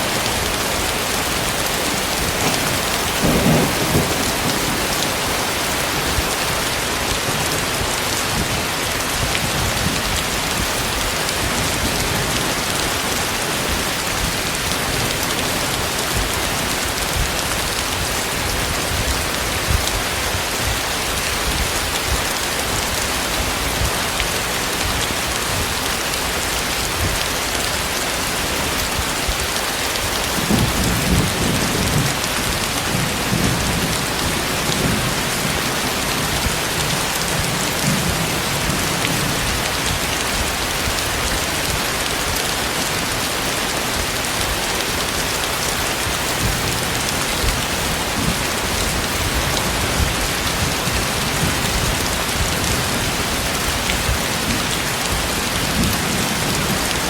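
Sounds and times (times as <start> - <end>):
heavy rain falling: 0.0 - 57.0
low rumble of thunder: 0.1 - 24.2, 30.2 - 42.5, 46.0 - 57.0.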